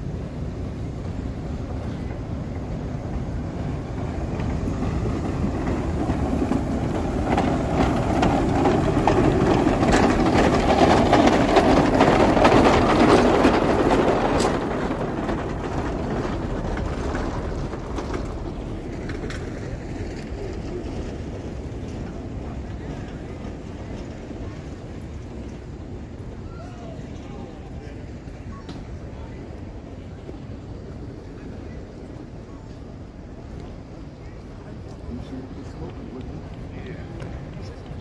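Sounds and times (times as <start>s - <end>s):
steam locomotive passing: 0.0s - 38.0s.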